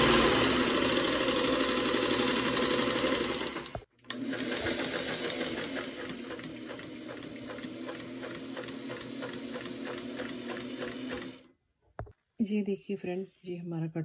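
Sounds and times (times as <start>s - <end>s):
sewing machine stitching: 0.0s - 11.5s.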